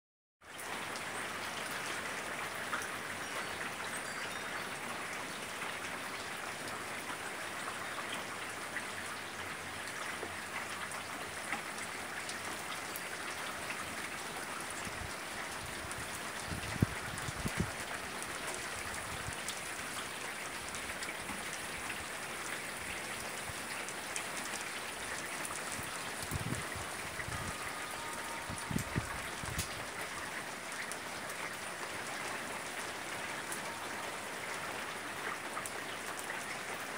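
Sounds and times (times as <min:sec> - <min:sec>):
steady rain falling: 0:00.4 - 0:36.9.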